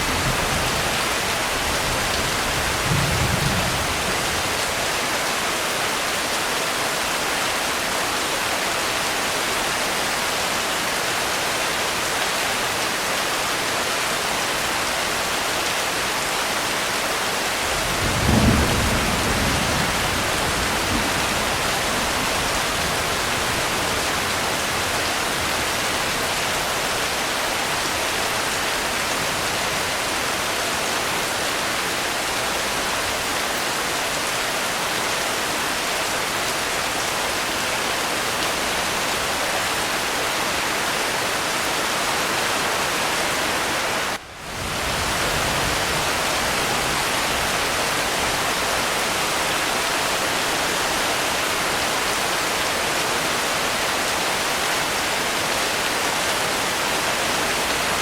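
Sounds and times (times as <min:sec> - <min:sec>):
heavy rain hiss: 0:00.0 - 0:58.0.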